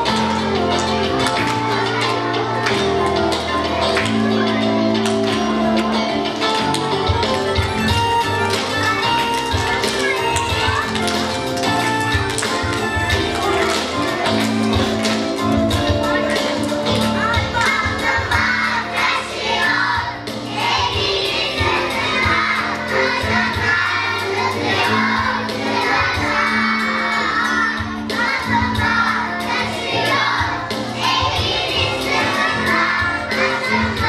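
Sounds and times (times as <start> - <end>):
backing music: 0.0 - 34.0
children singing and shouting: 0.0 - 34.0.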